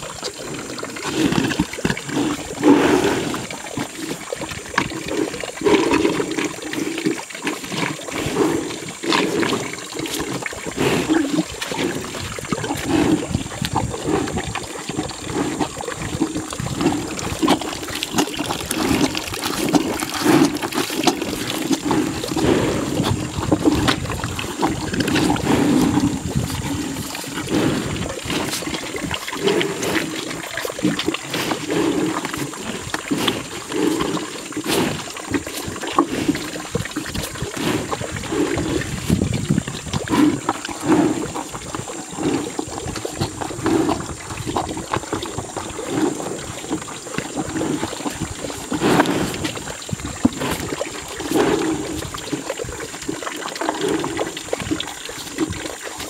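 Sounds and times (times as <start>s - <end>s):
cows slurping from a bucket: 0.0s - 56.0s.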